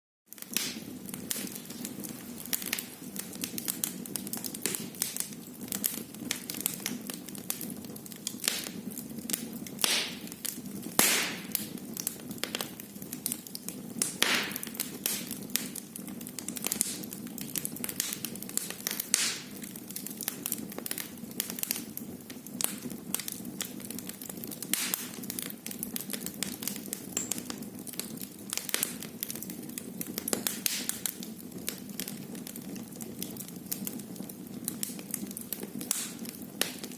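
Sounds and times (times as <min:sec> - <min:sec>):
low rumble of flames: 0:00.3 - 0:36.9
wood fire crackling and popping: 0:00.3 - 0:36.9.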